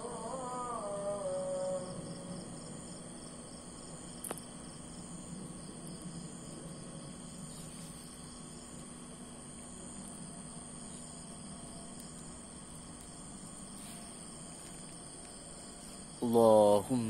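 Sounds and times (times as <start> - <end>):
crickets chirping: 0.0 - 17.0
faint low hum: 0.0 - 17.0.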